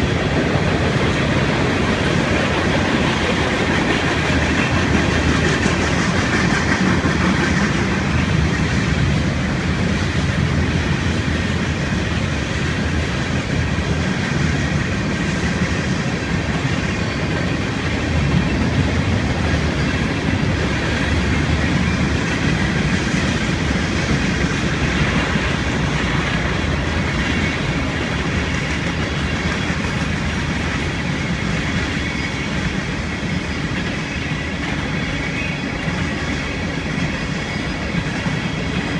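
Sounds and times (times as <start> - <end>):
train wheels rolling on rails: 0.0 - 38.9.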